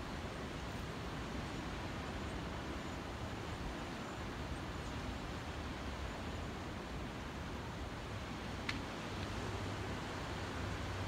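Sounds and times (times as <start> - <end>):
distant ocean surf: 0.0 - 11.0.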